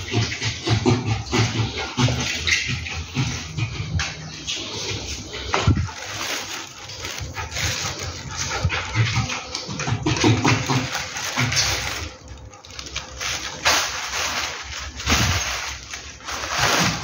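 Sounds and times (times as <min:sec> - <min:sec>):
dog wet mouthing sounds: 0:00.0 - 0:14.0
dog play noises: 0:00.0 - 0:17.0.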